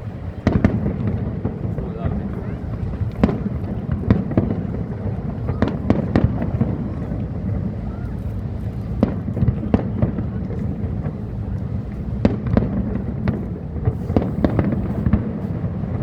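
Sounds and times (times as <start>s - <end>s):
fireworks bangs: 0.0s - 16.0s
steady low rumble: 0.0s - 16.0s.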